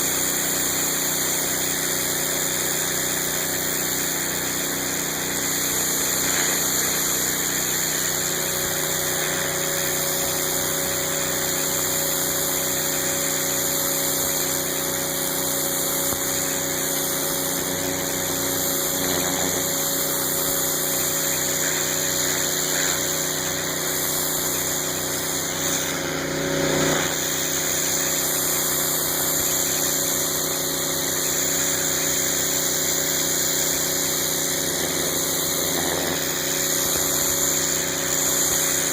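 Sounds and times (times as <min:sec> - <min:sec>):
high hiss of water spray: 0:00.0 - 0:38.9
pressure washer engine running: 0:00.0 - 0:38.9.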